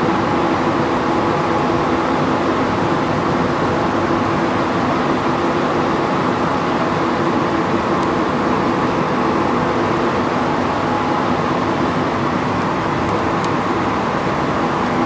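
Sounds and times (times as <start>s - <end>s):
constant low hum: 0.0s - 15.0s
train rumbling in tunnel: 0.0s - 15.0s.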